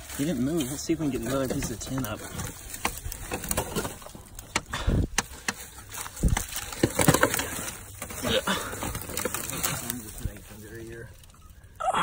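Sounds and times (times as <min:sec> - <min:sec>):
tin sheet scraping and knocking: 0:00.0 - 0:04.5, 0:05.2 - 0:11.1
dry leaves and sticks crackling: 0:00.0 - 0:12.0.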